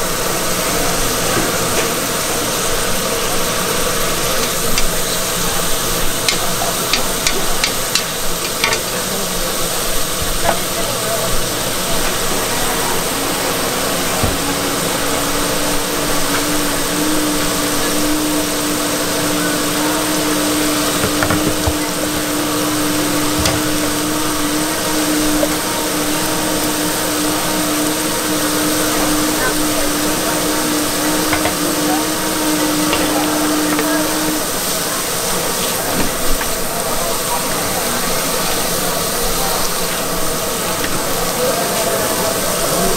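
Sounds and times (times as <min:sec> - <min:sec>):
food sizzling on a griddle: 0:00.0 - 0:42.9
steady hum: 0:00.0 - 0:42.9.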